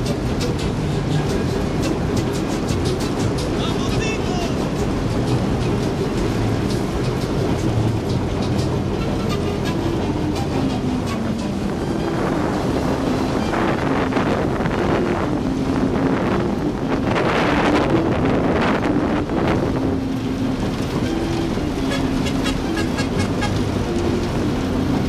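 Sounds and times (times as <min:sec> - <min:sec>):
diesel locomotive running: 0:00.0 - 0:25.0
wind on microphone: 0:00.0 - 0:25.0.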